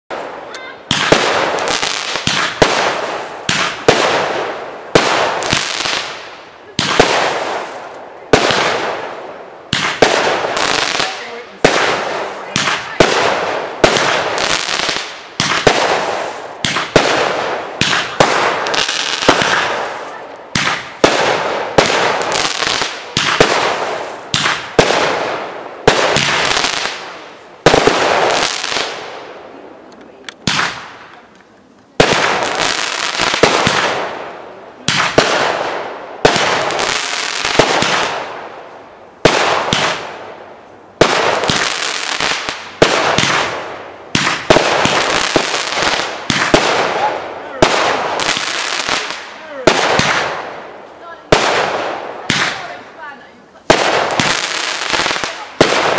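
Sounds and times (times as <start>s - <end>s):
firework barrage bangs: 0.1s - 29.4s, 30.4s - 31.1s, 32.0s - 40.4s, 41.0s - 55.9s.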